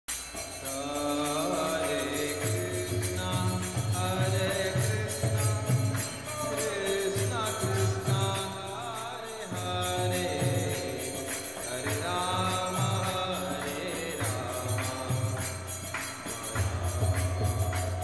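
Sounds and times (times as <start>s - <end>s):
devotional chanting: 0.1s - 18.0s.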